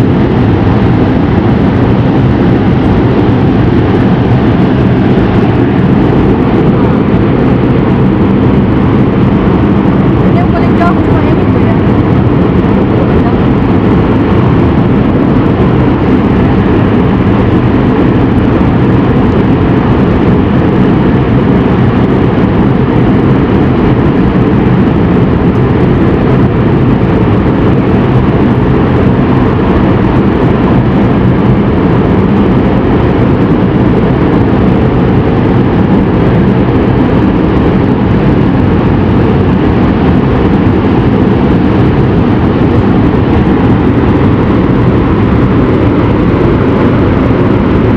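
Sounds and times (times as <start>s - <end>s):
volcanic crater roaring: 0.0s - 47.9s.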